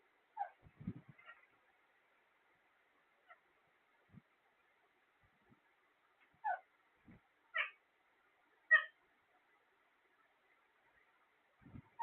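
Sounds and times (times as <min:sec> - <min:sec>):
faint soft sounds: 0:00.0 - 0:12.0.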